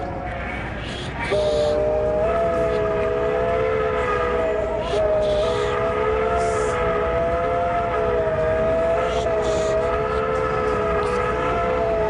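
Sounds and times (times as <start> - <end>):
drone of wavering held tones: 0.0 - 12.0.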